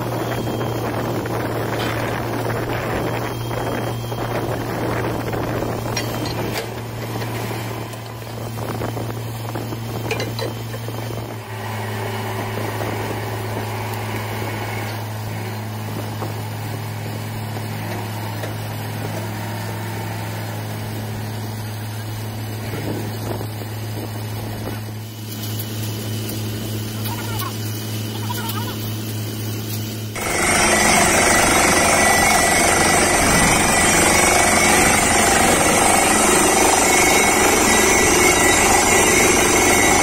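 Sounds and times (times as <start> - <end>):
drilling rig droning: 0.0 - 40.0.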